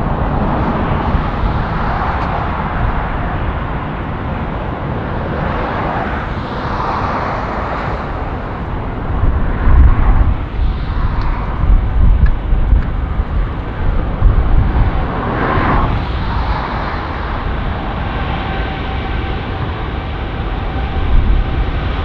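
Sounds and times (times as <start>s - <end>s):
jet engines at takeoff power: 0.0s - 22.0s.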